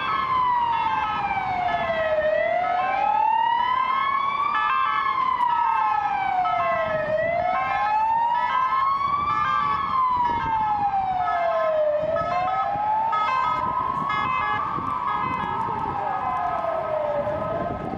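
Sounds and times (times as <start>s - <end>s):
road noise: 0.0s - 17.9s
siren wailing: 0.0s - 17.9s.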